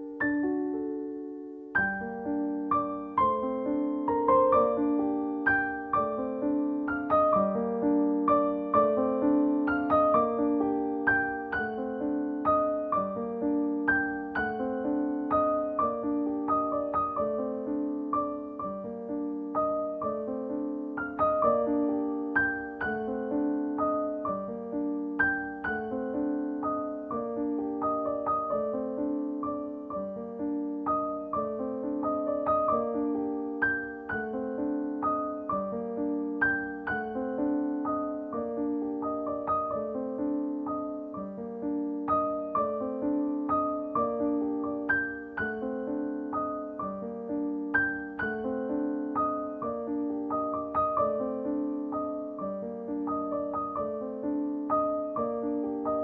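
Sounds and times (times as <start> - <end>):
gentle piano music: 0.0 - 56.0.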